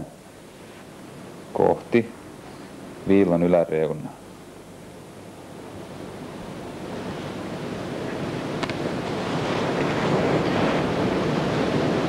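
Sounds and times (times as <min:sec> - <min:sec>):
tape background hiss: 0:00.0 - 0:12.0.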